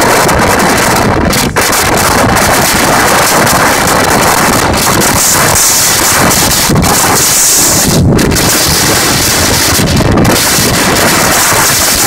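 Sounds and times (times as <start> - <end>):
moving train: 0.0 - 12.0
wind buffeting microphone: 0.0 - 12.0.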